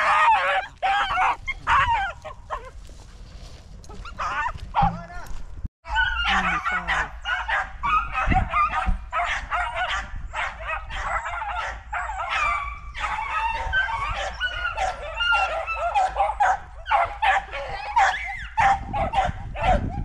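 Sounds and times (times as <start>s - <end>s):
dogs baying and yipping: 0.0s - 5.0s, 5.9s - 20.0s.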